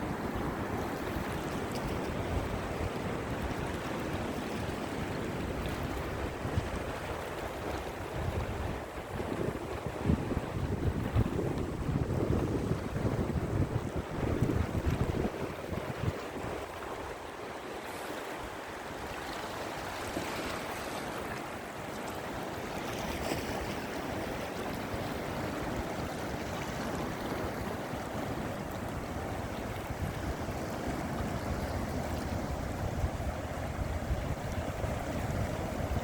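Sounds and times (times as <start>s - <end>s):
wind buffeting microphone: 0.0s - 17.6s, 22.2s - 36.0s
sea surf washing on shore: 0.0s - 36.0s.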